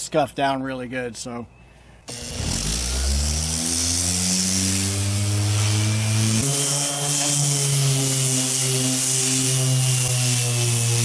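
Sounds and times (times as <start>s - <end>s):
orbital sander running: 2.1s - 11.0s.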